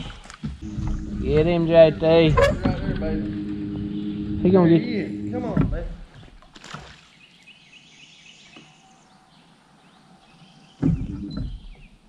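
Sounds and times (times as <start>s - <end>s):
river ambience: 0.0s - 12.0s.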